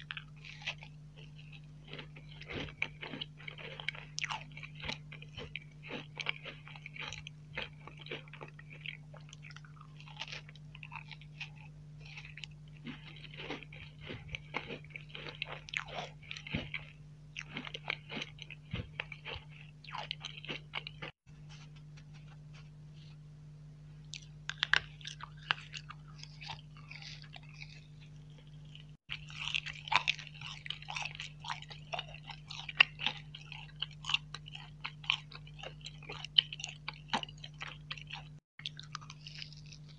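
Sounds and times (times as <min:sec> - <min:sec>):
crunching and wet chewing: 0:00.0 - 0:23.2, 0:24.0 - 0:39.9
faint low hum: 0:00.0 - 0:39.9.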